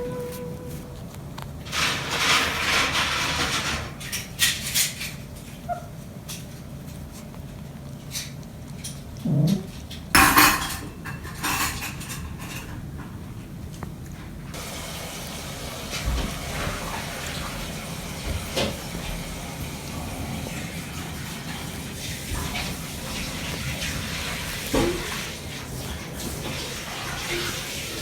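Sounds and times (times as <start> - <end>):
water running: 0.0 - 28.0.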